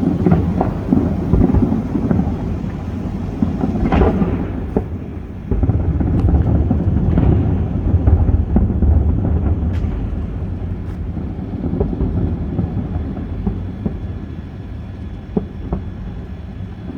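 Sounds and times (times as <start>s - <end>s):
sharp firework cracks: 0.0s - 14.0s
distant fireworks booming: 0.0s - 16.9s.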